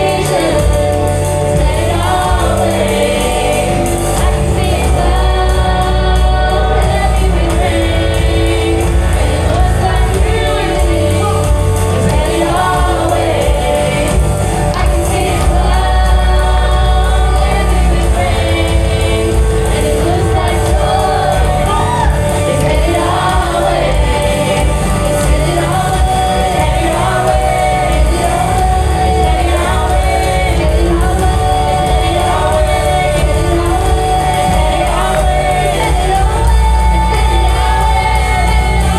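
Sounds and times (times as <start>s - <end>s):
band with steady bass: 0.0s - 38.9s
choir singing gospel music: 0.0s - 38.9s.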